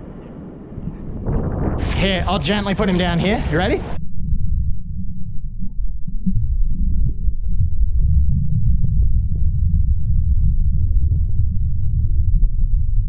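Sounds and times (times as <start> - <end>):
underwater surf rumble: 0.0 - 13.0.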